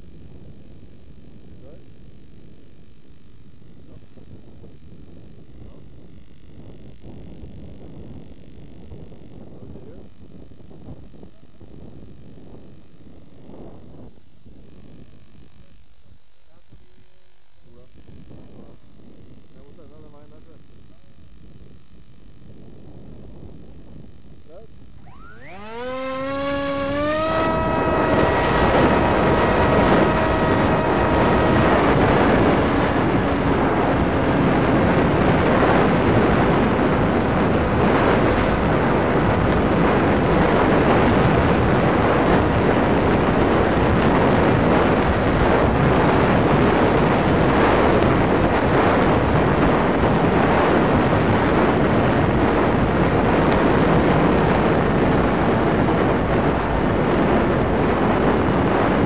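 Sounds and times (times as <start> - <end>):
electric motor propeller whine: 0.0 - 59.0
wind rushing over microphone: 0.0 - 59.0.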